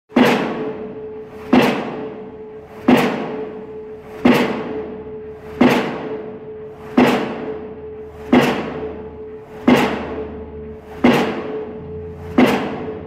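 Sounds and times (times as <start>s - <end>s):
pile-driving hammer blows: 0.1s - 13.0s
steady humming tone: 0.6s - 13.0s.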